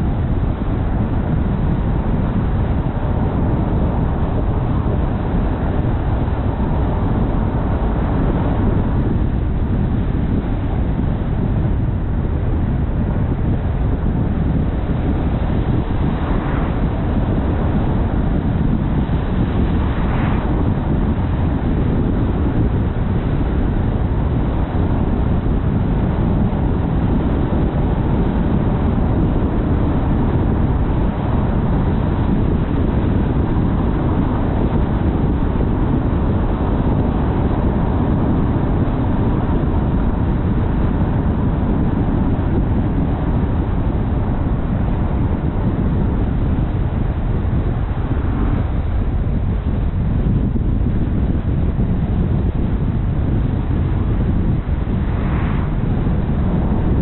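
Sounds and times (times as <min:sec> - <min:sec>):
car driving road rumble: 0:00.0 - 0:57.0.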